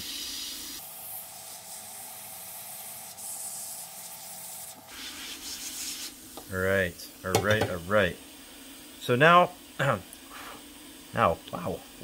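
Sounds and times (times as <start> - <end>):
heat gun airflow hiss: 0.0 - 12.0
thin steady whine: 0.8 - 12.0.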